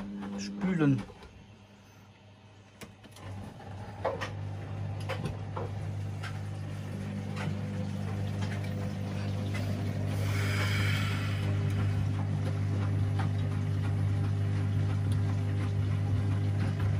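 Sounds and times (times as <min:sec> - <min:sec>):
washing machine drain pump humming: 0:00.0 - 0:16.9.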